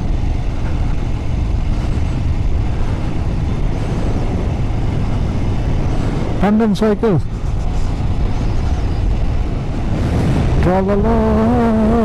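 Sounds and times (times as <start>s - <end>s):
motorcycle engine rumble: 0.0s - 12.0s
wind rush: 0.0s - 12.0s.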